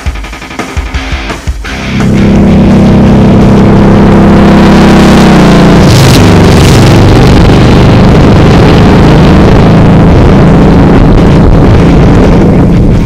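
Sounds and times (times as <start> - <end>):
motorcycle engines running: 1.0 - 13.0.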